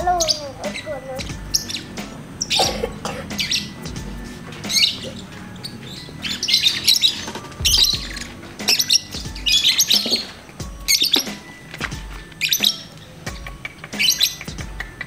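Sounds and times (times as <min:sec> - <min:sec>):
lovebird chattering: 0:00.0 - 0:11.4, 0:12.4 - 0:15.0.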